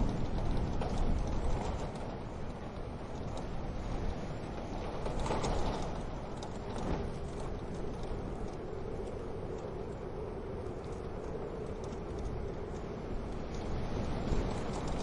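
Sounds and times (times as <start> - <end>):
low rumble of flame: 0.0 - 15.0.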